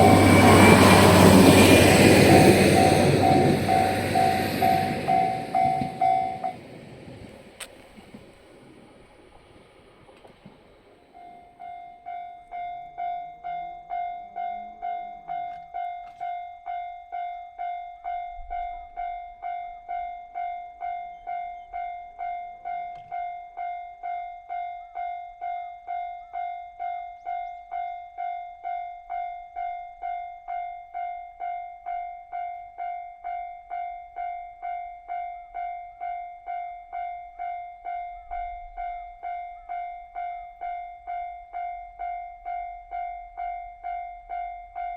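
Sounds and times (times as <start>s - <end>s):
level-crossing warning bell ringing: 0.0s - 7.1s, 11.1s - 44.9s.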